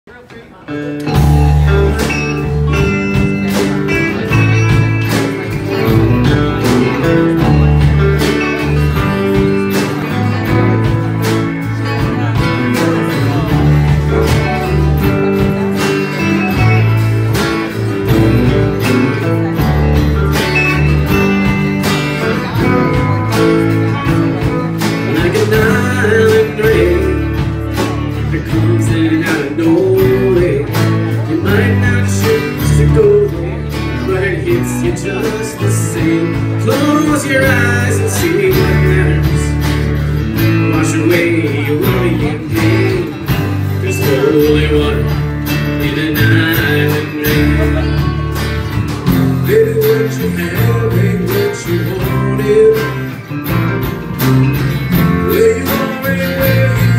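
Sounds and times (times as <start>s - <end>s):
guitars strumming: 0.1s - 56.9s
steady drums: 1.0s - 56.9s.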